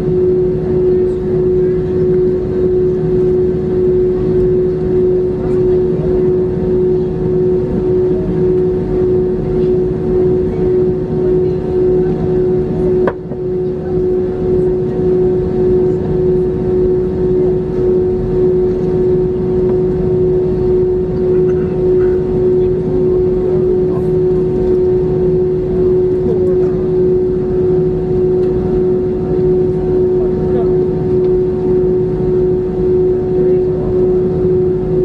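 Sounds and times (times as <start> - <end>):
aircraft cabin engine drone: 0.0 - 35.0
constant tone: 0.0 - 35.0.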